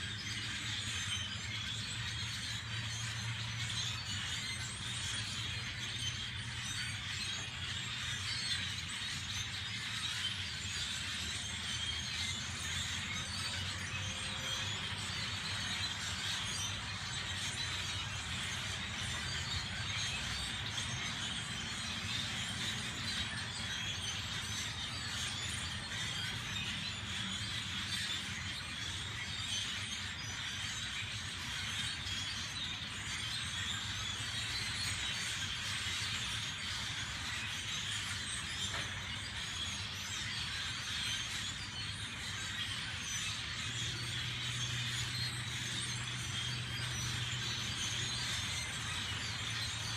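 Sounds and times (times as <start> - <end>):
large flock of birds calling: 0.0 - 49.9.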